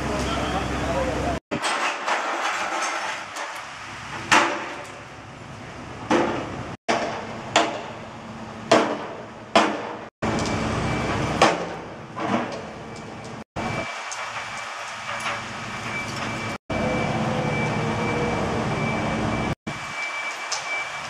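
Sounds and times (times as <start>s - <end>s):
low rumble of site machinery: 0.0s - 21.0s.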